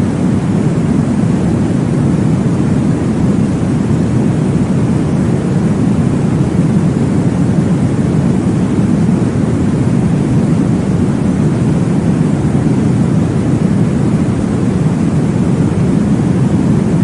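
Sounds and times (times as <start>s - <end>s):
deep white noise whoosh: 0.0s - 17.0s.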